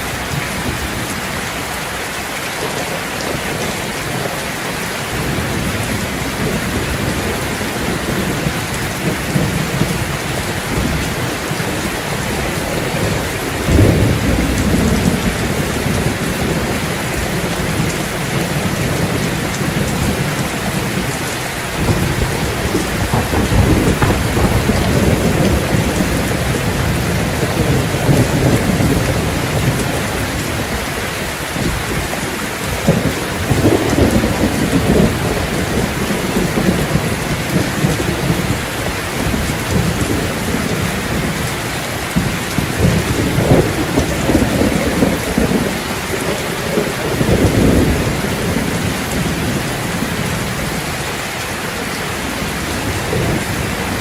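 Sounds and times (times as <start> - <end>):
deep rolling thunder rumbles: 0.0 - 51.1, 52.2 - 54.0
heavy rain pouring: 0.0 - 54.0.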